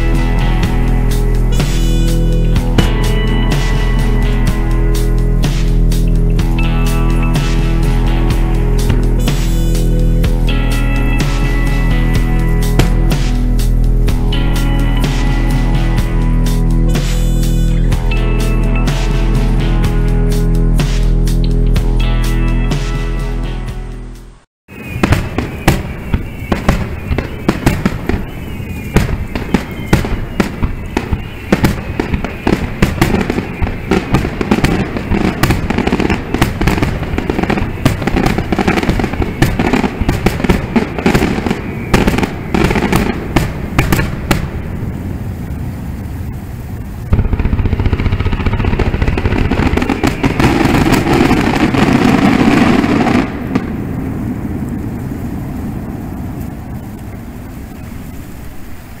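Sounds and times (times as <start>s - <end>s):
fireworks bursting: 0.0s - 19.9s, 24.7s - 59.0s
fireworks crackling: 0.0s - 23.2s, 24.7s - 59.0s
steady rush of noise: 0.0s - 59.0s.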